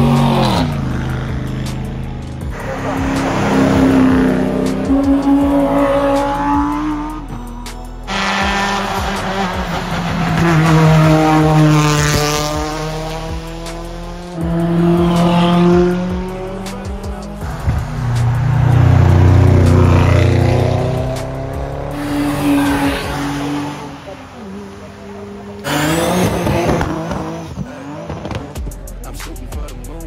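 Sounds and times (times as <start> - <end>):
car engines accelerating past: 0.0 - 7.4, 8.1 - 28.7.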